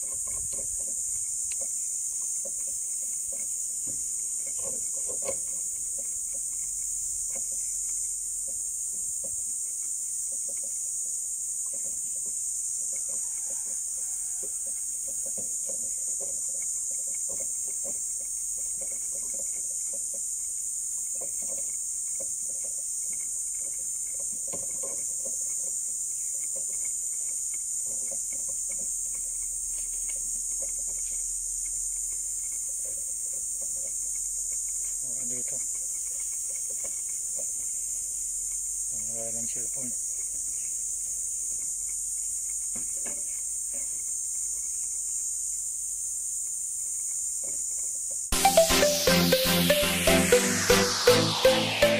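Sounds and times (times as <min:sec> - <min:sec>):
high-pitched hiss: 0:00.0 - 0:51.9.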